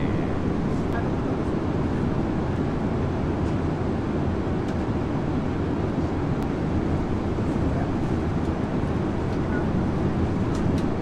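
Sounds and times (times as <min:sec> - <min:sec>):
aircraft cabin engine roar: 0:00.0 - 0:11.0.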